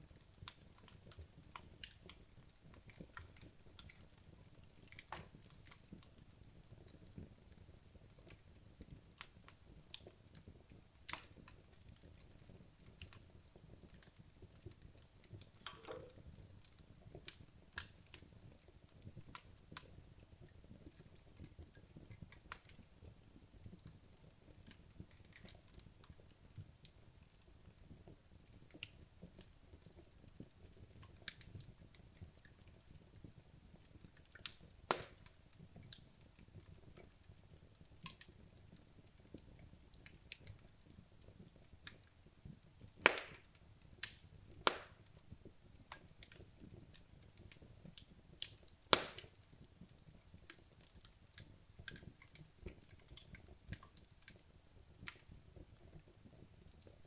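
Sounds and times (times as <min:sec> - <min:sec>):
logs burning in a fireplace: 0:00.0 - 0:57.0.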